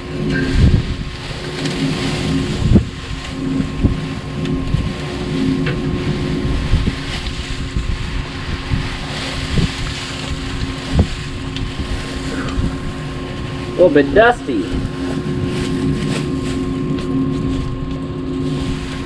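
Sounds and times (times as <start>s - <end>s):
engine idling hum: 0.0s - 19.0s
wind rumbling on microphone: 0.0s - 19.0s.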